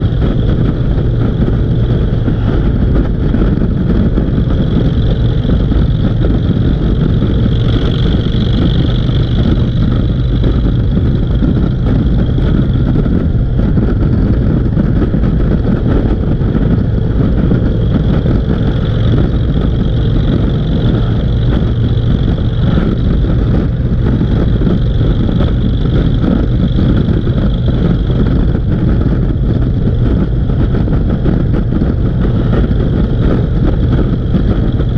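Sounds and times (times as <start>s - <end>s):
motorcycle engine running: 0.0s - 34.9s
wind and road noise: 0.0s - 34.9s.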